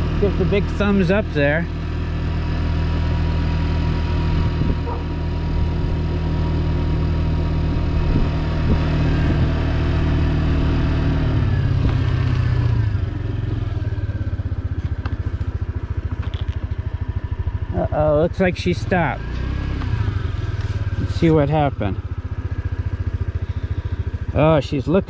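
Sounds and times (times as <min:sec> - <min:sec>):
small motorcycle engine: 0:00.0 - 0:25.0.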